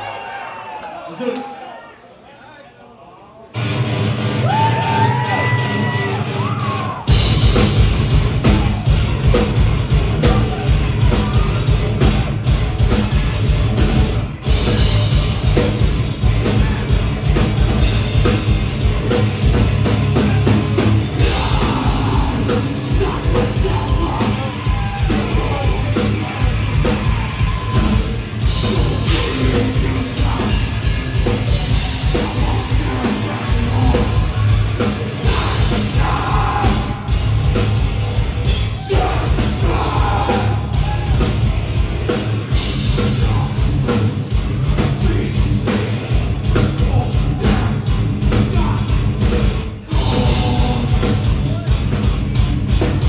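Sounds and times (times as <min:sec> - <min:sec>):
heavy metal band playing: 0:03.6 - 0:53.0.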